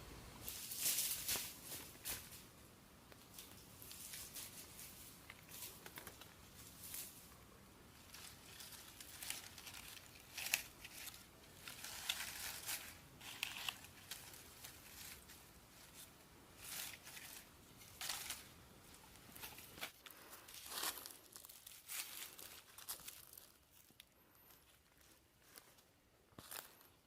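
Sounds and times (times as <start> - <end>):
rustling crinkling and tearing: 3.1 - 27.0.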